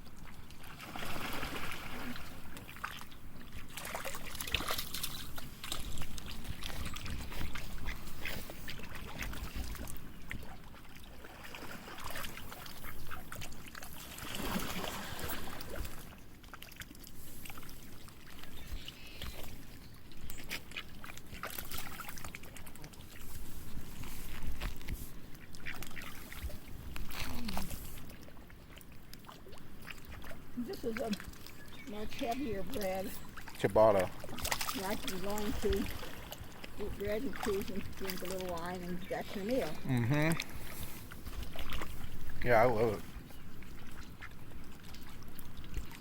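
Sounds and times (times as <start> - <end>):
water splashing: 0.0 - 46.0.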